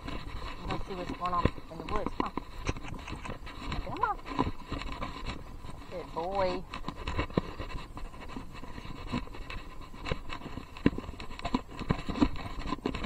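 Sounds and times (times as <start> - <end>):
camera scraping and rubbing: 0.0 - 13.0
horse hooves on grass: 0.0 - 13.0.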